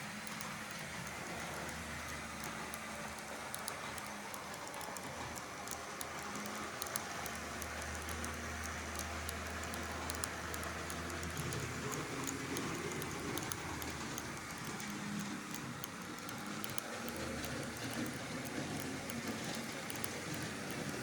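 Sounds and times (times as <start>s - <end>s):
model train rattling on track: 0.0s - 21.0s.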